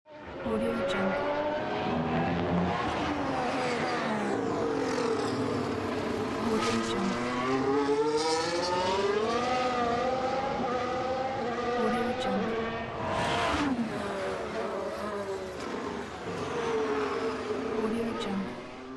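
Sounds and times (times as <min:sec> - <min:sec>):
racing car engine at high revs: 0:00.1 - 0:18.9.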